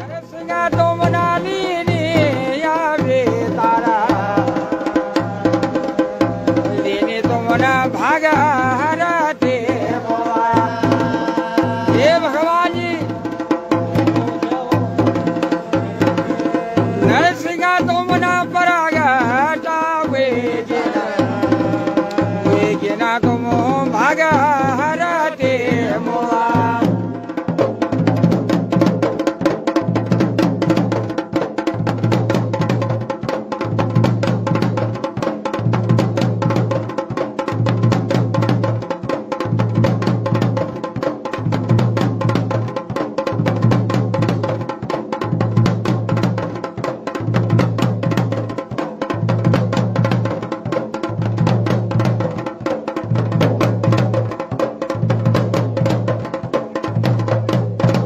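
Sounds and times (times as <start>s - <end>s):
drums playing fast beat: 0.0s - 58.0s.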